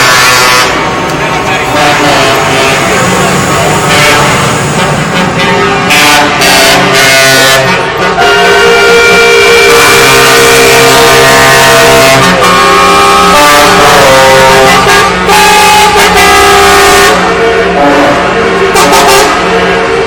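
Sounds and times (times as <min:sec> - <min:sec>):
truck air horns blowing: 0:00.0 - 0:20.0.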